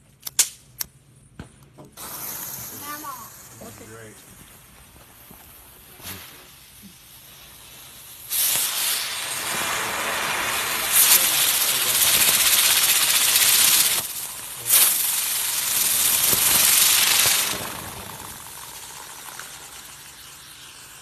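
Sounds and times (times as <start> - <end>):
firework hissing: 1.9 - 21.0.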